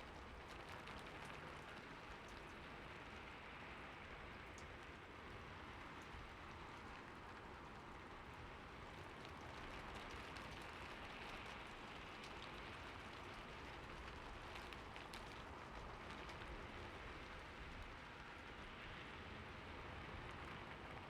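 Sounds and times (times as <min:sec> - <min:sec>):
rain on a roof: 0:00.0 - 0:21.0.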